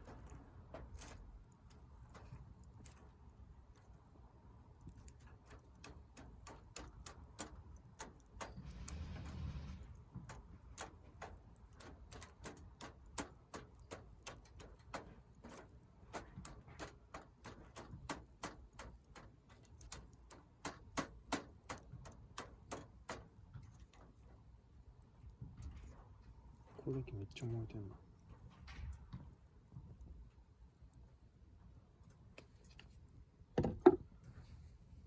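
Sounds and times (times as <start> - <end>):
wood fire crackling: 0.0 - 34.2.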